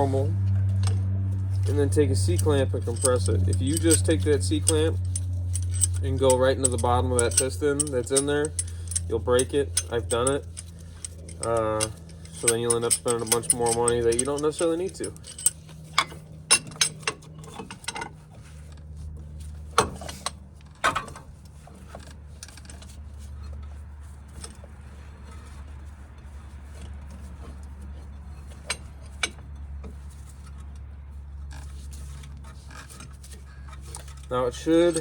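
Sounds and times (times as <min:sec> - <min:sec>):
metal clicks and clanks: 0:00.0 - 0:18.9, 0:19.7 - 0:23.0, 0:26.7 - 0:35.0
steady low hum: 0:00.0 - 0:35.0.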